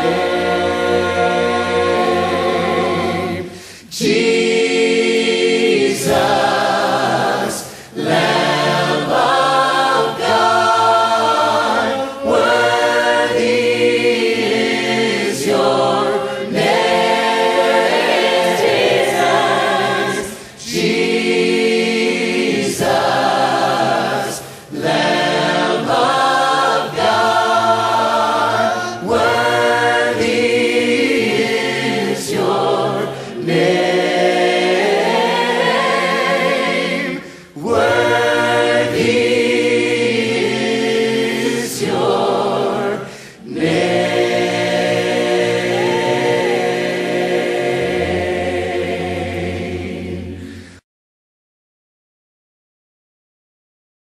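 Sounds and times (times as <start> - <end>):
choir singing: 0.0 - 50.8.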